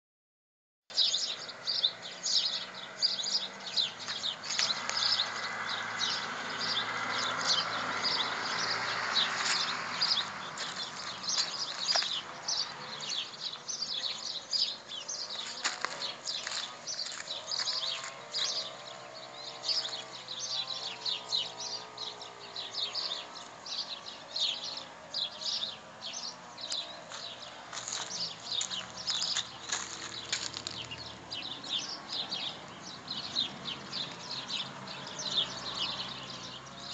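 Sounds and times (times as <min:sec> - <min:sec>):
small birds chirping: 0:00.9 - 0:36.9.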